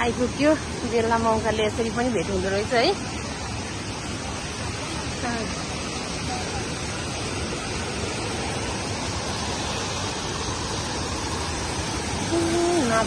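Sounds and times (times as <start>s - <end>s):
stream rushing over weir: 0.0s - 13.0s.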